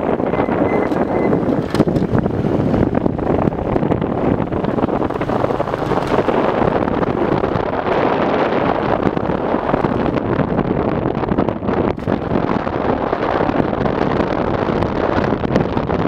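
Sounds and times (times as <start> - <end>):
rush of bike on paved road: 0.0 - 16.0
wind buffeting microphone: 0.0 - 16.0.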